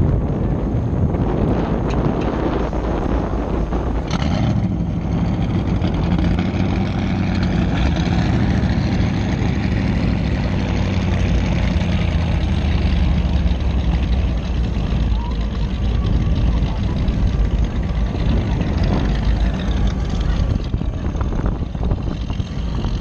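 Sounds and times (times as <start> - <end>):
watercraft engine idling: 0.0 - 23.0.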